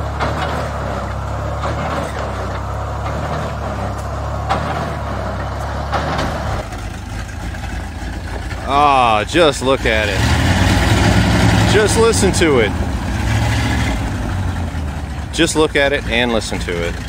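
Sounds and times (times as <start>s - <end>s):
drilling rig engine idling: 0.0s - 17.0s.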